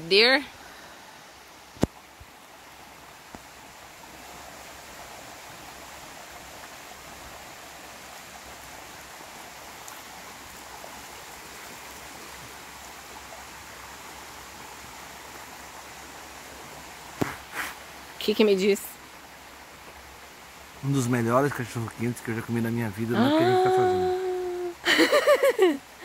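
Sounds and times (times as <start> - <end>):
steady rushing hiss: 0.0 - 23.1.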